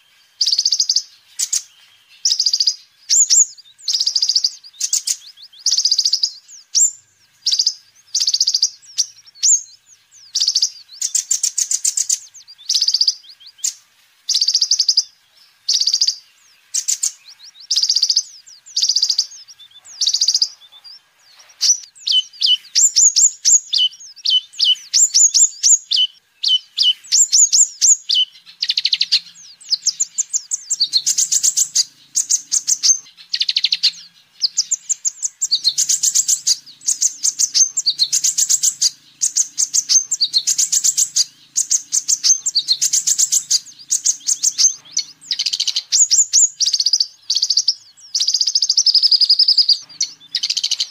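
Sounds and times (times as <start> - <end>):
bird chirps and trills: 0.0 - 50.9.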